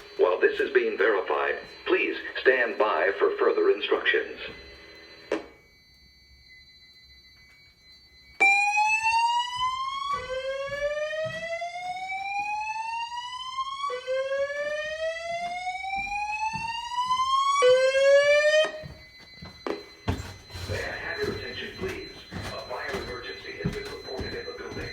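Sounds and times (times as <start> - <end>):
fire alarm whoop tone: 0.0 - 24.9.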